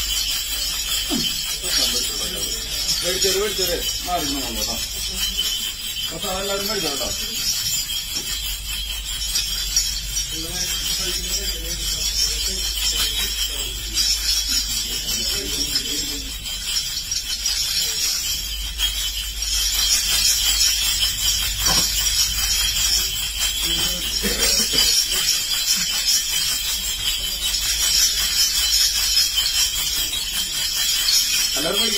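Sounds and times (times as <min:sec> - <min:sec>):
small metal bells jingling: 0:00.0 - 0:31.9.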